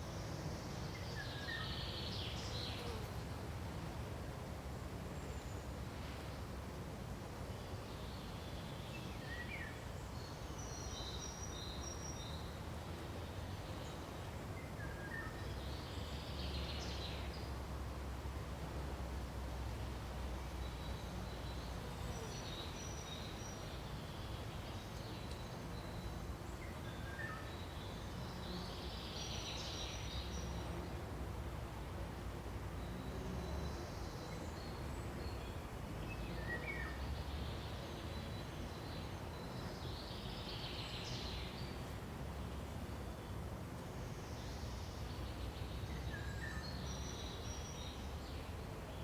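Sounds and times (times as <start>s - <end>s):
background hiss: 0.0s - 49.0s.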